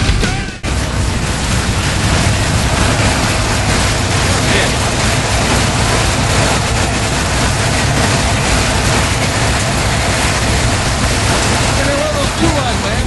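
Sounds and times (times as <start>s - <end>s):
car engine running: 0.0s - 13.0s
heavy rock music: 0.0s - 13.0s.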